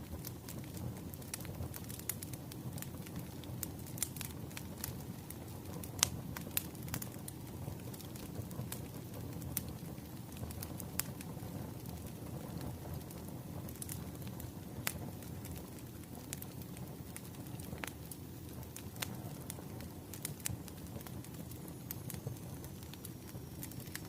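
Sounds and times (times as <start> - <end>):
firewood crackling and popping: 0.0 - 24.0
flames rumbling: 0.0 - 24.0.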